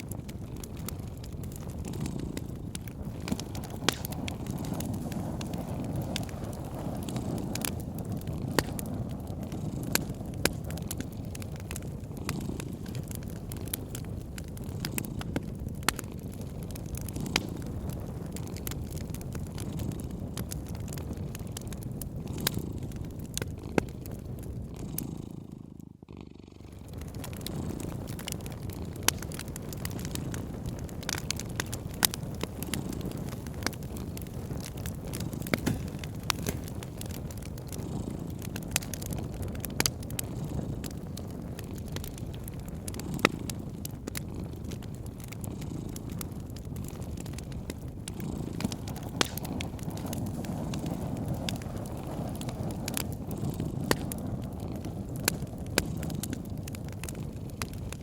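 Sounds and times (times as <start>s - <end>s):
cat purring: 0.0s - 58.0s
wood fire crackling and popping: 0.0s - 58.0s.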